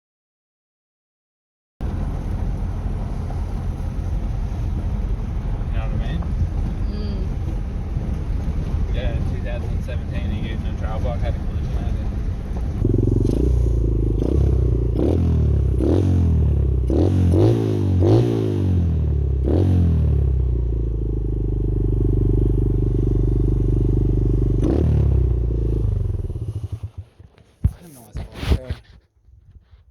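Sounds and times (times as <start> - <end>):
motorbike engine revving: 2.0 - 27.8.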